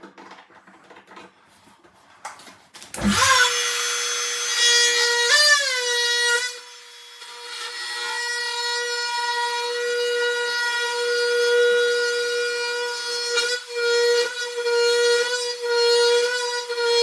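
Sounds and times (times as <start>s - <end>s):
power tool high-pitched whine: 2.9s - 17.0s.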